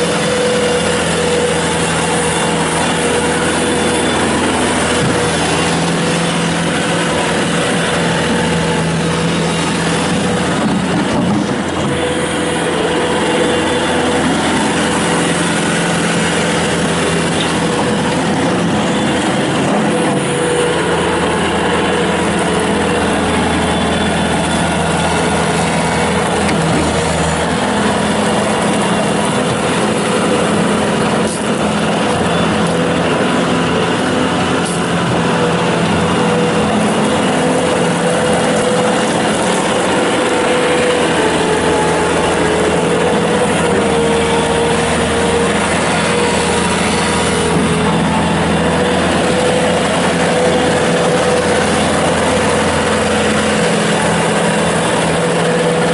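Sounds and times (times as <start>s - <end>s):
diesel engine running: 0.0s - 55.9s
steady whine: 0.0s - 55.9s.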